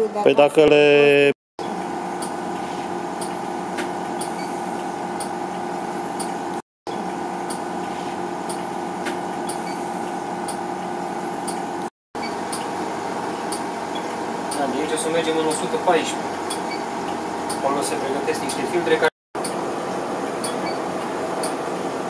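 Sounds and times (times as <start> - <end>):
even mechanical whir: 1.6 - 22.0.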